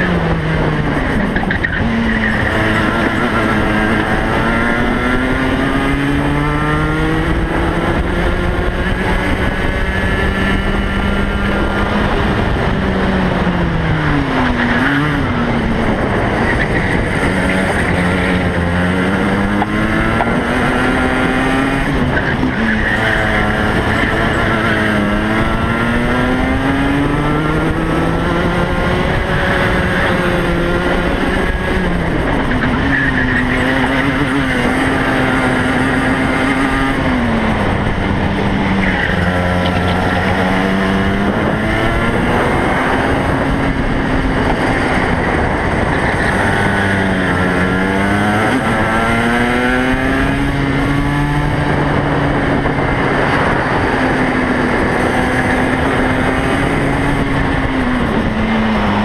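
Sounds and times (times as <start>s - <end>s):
kart engine at full throttle: 0.0s - 59.0s.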